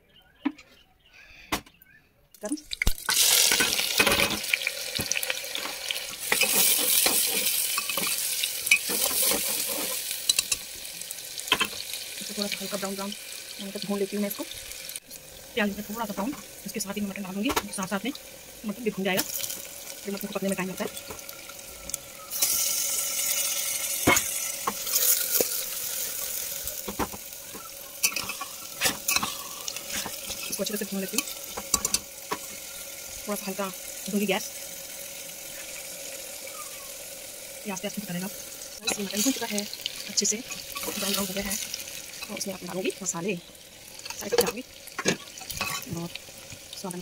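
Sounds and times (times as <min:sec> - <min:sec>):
onions sizzling in hot oil: 0:02.7 - 0:47.0.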